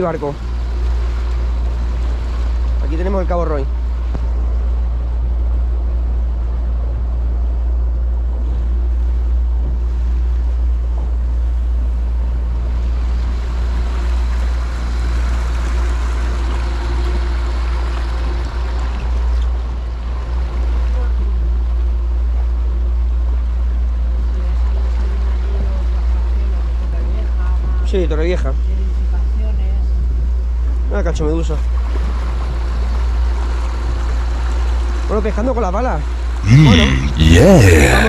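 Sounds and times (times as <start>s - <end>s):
water rushing and splashing: 0.0s - 7.3s, 8.2s - 26.8s, 31.6s - 38.0s
outboard motor running: 0.0s - 36.4s.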